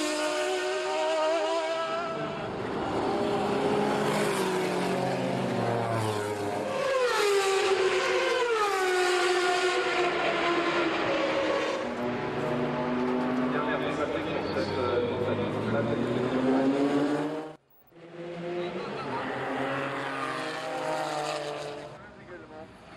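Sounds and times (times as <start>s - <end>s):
racing car engine at high revs: 0.0s - 22.0s.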